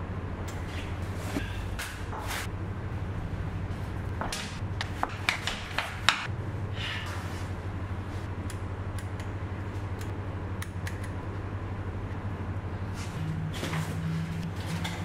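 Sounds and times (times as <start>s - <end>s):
low hum: 0.0s - 5.2s, 6.2s - 15.0s.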